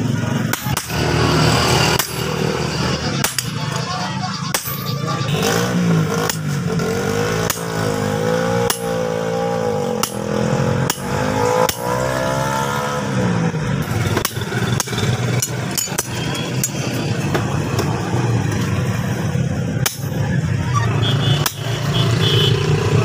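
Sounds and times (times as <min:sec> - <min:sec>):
engine revving: 0:00.0 - 0:04.2, 0:05.1 - 0:23.0.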